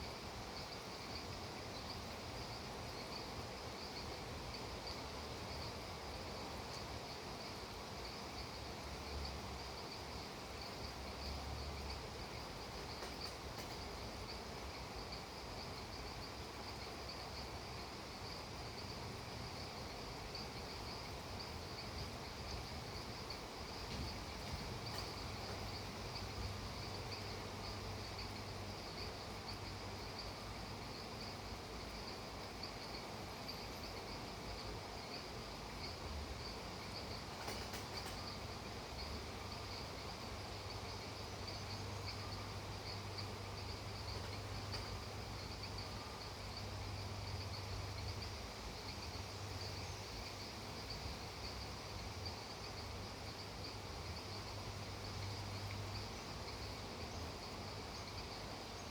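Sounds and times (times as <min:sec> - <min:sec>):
crickets chirring: 0:00.0 - 0:58.9
rain hiss: 0:00.0 - 0:58.9.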